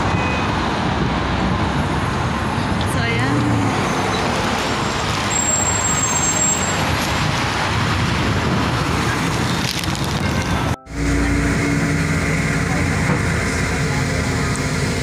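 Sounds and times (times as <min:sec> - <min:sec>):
bus engine running: 0:00.0 - 0:15.0
city street traffic: 0:00.0 - 0:15.0.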